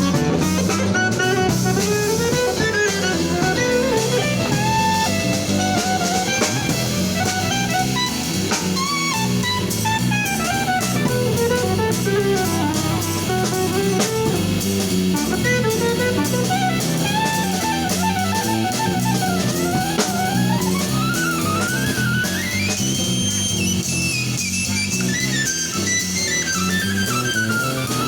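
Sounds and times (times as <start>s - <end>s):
fast lead melody: 0.0s - 28.0s
jazz fusion band playing: 0.0s - 28.0s.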